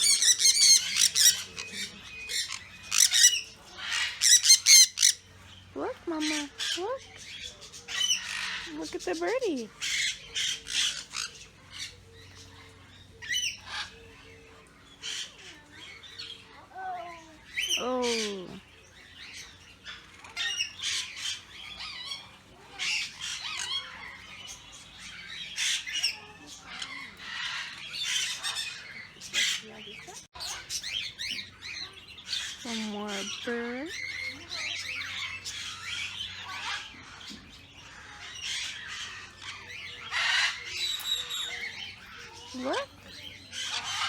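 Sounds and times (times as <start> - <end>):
birds squawking: 0.0 - 44.0.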